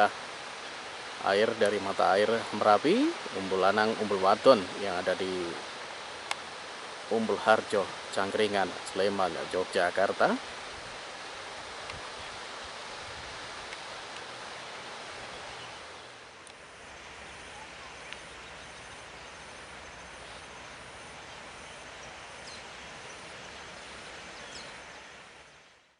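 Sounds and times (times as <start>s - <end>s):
river water rushing: 0.0s - 25.9s.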